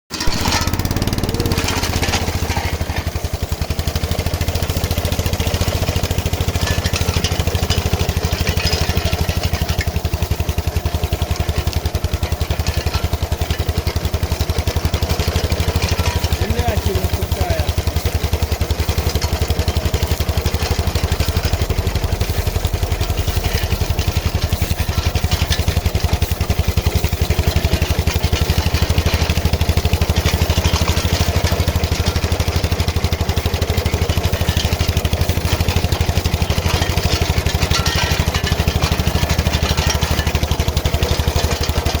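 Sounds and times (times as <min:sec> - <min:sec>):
small tractor engine running: 0:00.0 - 0:42.0.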